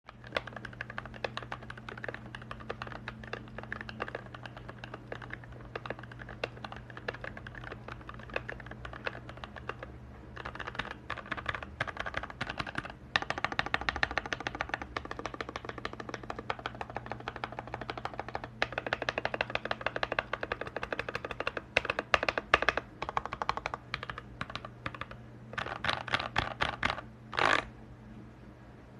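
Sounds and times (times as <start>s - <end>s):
mechanical keyboard typing: 0.0s - 27.7s
constant low hum: 0.0s - 28.9s.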